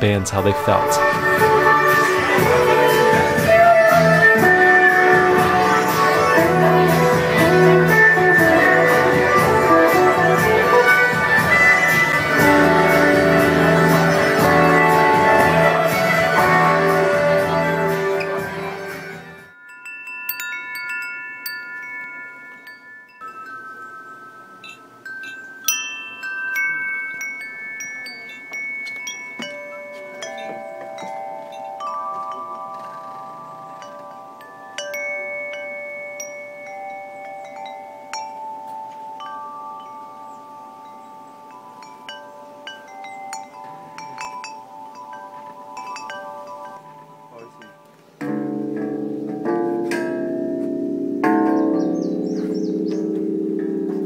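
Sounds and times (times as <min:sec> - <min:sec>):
metal tube wind chimes ringing: 0:00.0 - 0:54.0.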